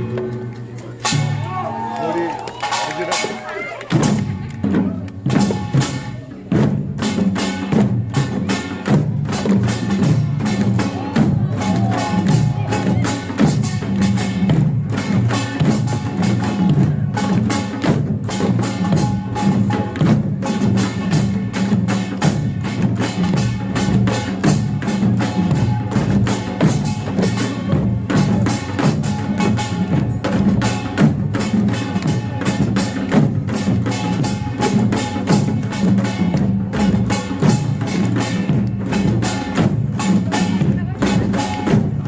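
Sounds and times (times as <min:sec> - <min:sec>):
barrel drums: 0:00.0 - 0:42.0
hourglass drums: 0:05.2 - 0:42.0.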